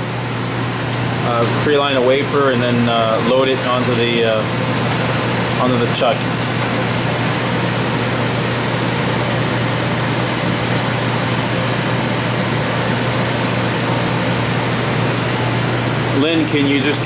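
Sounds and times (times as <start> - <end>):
ventilation fan rushing: 0.0 - 17.0.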